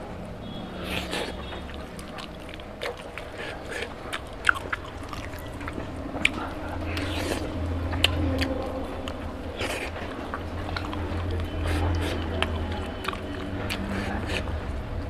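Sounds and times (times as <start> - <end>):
man chewing and lip smacking: 0.8 - 14.6.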